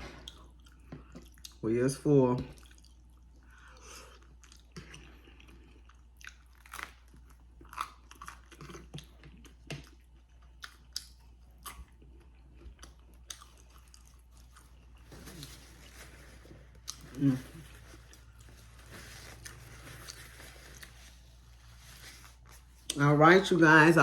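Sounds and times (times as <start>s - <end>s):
person chewing food: 0.0s - 1.6s, 2.5s - 23.0s.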